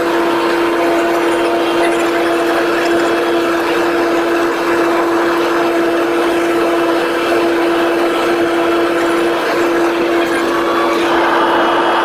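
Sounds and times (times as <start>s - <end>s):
propeller engine cabin drone: 0.0s - 12.0s.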